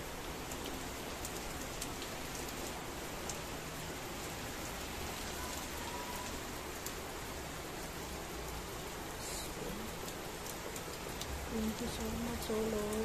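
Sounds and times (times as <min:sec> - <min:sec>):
rain on wet pavement: 0:00.0 - 0:13.0.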